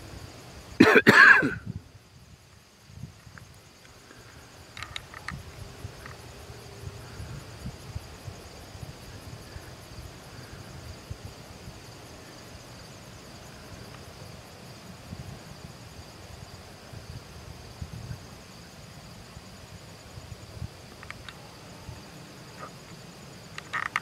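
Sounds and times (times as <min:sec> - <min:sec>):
insect high trill: 0:00.0 - 0:24.0
pulsing insect chirp: 0:00.0 - 0:24.0.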